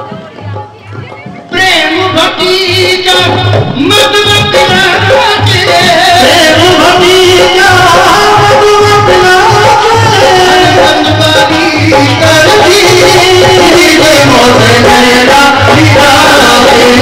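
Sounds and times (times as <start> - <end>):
instrumental accompaniment: 0.0 - 17.0
regular drum beat: 0.0 - 17.0
person singing devotional song: 1.4 - 17.0.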